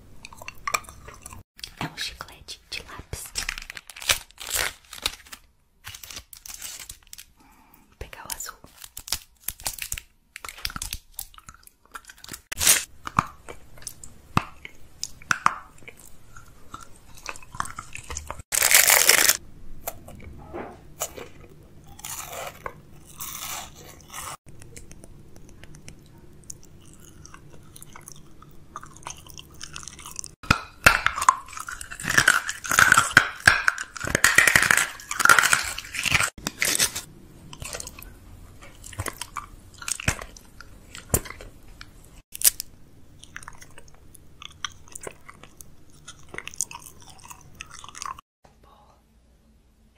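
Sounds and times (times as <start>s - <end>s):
chewing and crunching food: 0.1s - 1.8s, 3.2s - 20.3s, 21.0s - 48.2s.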